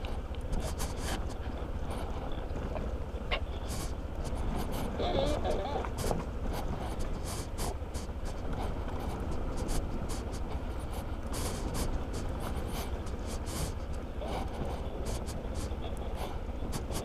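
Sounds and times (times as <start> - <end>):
wind and road rumble: 0.0 - 17.0
short scratchy rustles: 0.5 - 17.0.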